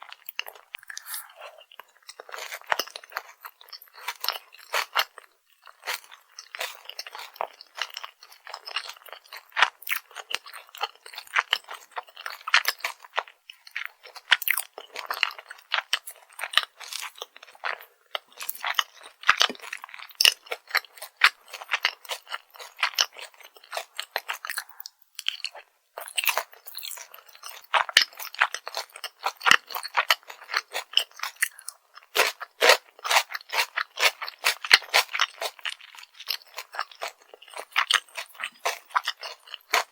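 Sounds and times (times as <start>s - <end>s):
crunching and chewing fried food: 0.0s - 39.9s.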